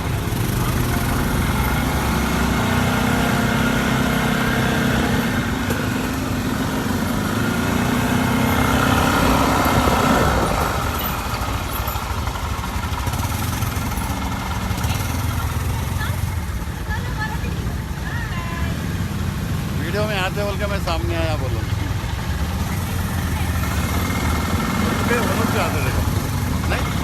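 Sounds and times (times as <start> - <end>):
quad bike engine running: 0.0 - 27.0.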